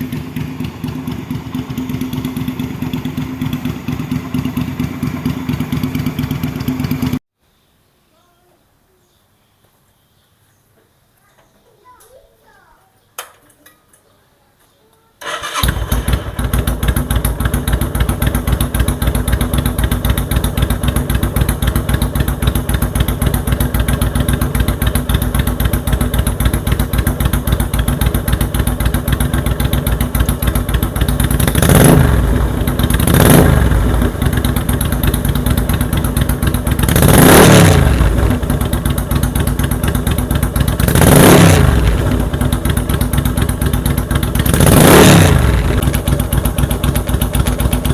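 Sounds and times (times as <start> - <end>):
motorcycle engine revving: 0.0 - 7.2, 15.2 - 47.9
motorcycle engine starting and idling: 0.0 - 7.2, 15.2 - 47.9.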